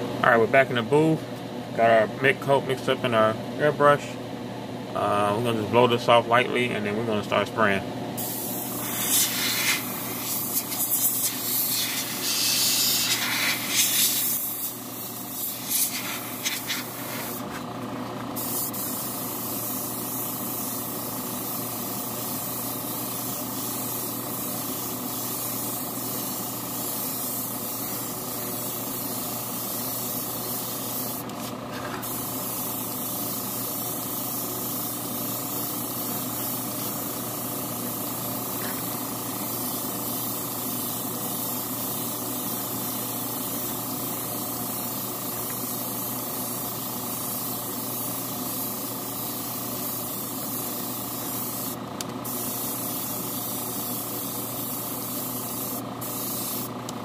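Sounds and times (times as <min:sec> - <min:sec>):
steady hum: 0:00.0 - 0:57.0
airbrush hissing blasts: 0:08.2 - 0:17.6, 0:18.3 - 0:56.8
airbrush spraying steady hiss: 0:08.2 - 0:17.6, 0:18.3 - 0:57.0.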